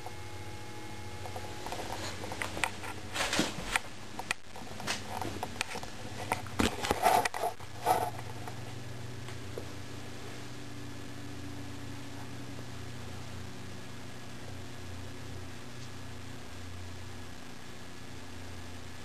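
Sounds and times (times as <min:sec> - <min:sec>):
low lamp ballast hum: 0:00.0 - 0:19.0.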